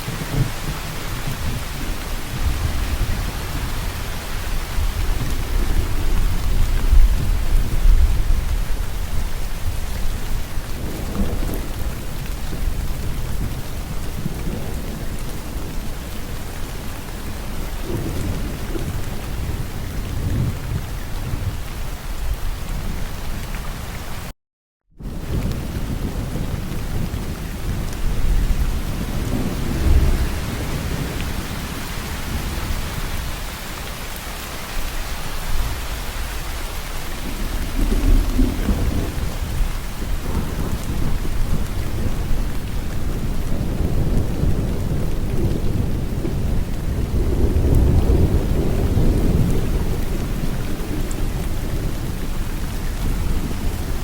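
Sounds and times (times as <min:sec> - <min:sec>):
low rolling thunder: 0:00.0 - 0:23.1, 0:25.0 - 0:33.8, 0:35.0 - 0:54.0
rain falling: 0:00.0 - 0:24.3, 0:25.0 - 0:54.0.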